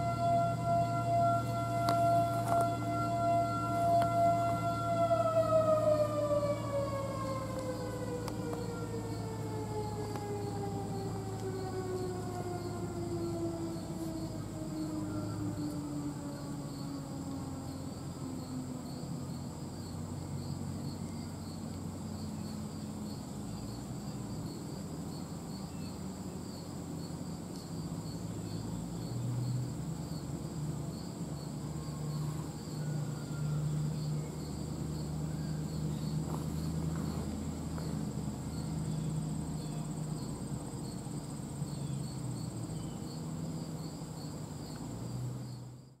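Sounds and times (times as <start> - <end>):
crickets trilling and chirping: 0.0 - 46.0.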